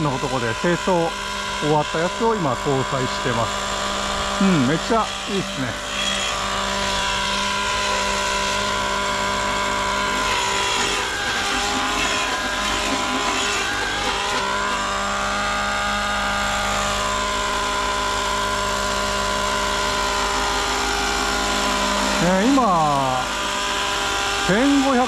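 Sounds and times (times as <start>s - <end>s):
model helicopter engine: 0.0s - 25.0s
rotor whine: 0.0s - 25.0s.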